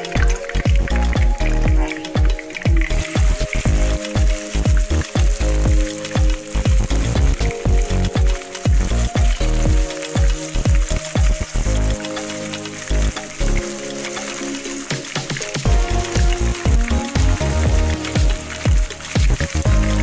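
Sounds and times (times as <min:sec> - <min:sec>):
background music with beat: 0:00.0 - 0:20.0
chicken frying in oil: 0:00.0 - 0:20.0.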